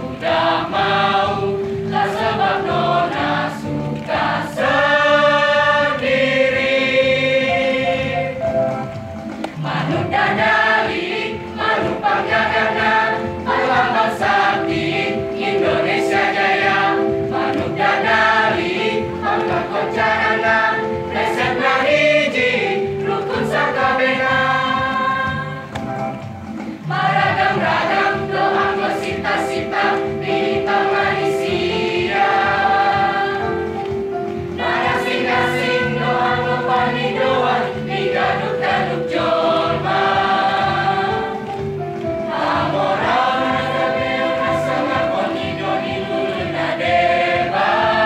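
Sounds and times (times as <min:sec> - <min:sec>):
children's choir singing: 0:00.0 - 0:08.6, 0:09.5 - 0:25.8, 0:26.8 - 0:48.0.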